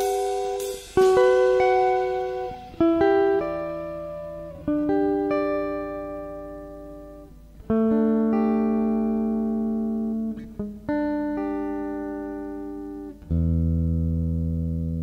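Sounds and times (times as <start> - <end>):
jazz guitar chords: 0.0 - 15.0.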